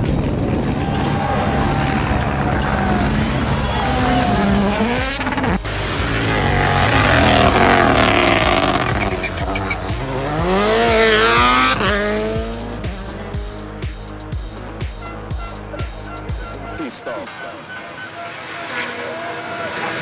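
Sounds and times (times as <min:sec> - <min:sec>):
tyres squealing and skidding: 0:00.0 - 0:13.4, 0:15.0 - 0:20.0
rally car engine revving: 0:00.0 - 0:16.9
music beat thumping: 0:00.0 - 0:17.6.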